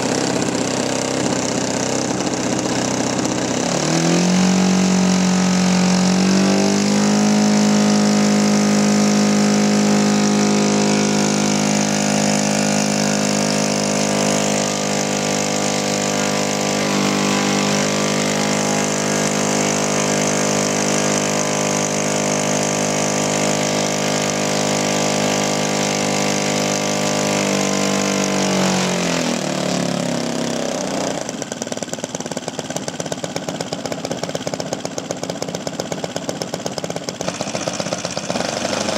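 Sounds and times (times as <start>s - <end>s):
model aircraft engine idling: 0.0s - 38.9s.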